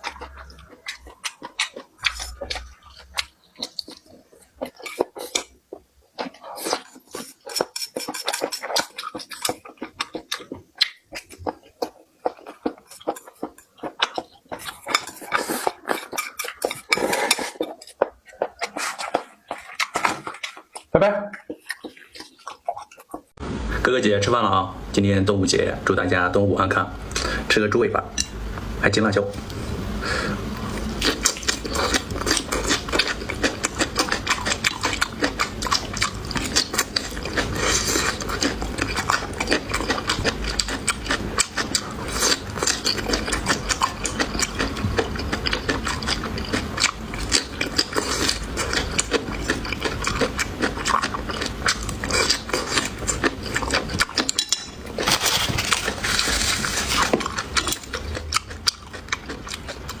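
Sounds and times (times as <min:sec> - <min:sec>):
wet chewing and smacking: 0:00.0 - 0:23.4, 0:30.6 - 1:00.0.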